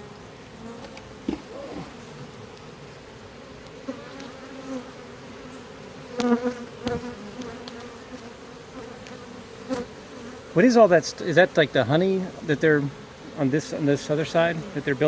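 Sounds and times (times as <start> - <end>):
bees buzzing: 0.0 - 15.0
single bees droning past: 0.0 - 15.0.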